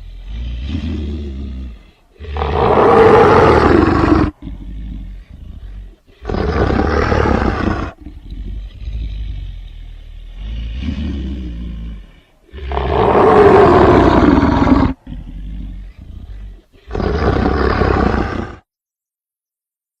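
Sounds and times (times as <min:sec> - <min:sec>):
big cat growling: 0:00.0 - 0:18.6
big cat roaring: 0:00.0 - 0:18.6.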